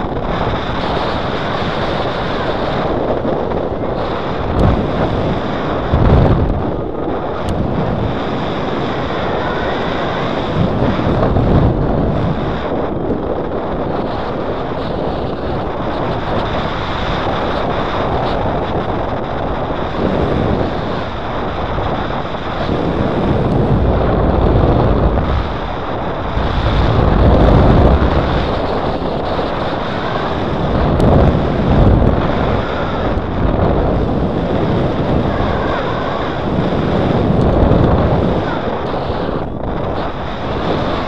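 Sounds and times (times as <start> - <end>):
wind roaring over microphone: 0.0 - 41.0.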